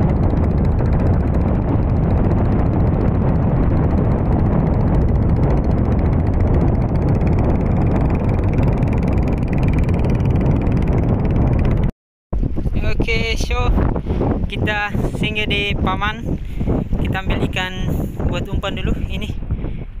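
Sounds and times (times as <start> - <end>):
boat motor rumbling: 0.0 - 20.0.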